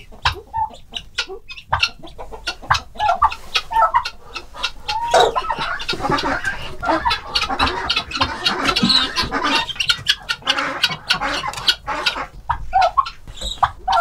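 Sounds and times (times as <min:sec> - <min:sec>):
guinea fowl calling: 0:00.0 - 0:14.0.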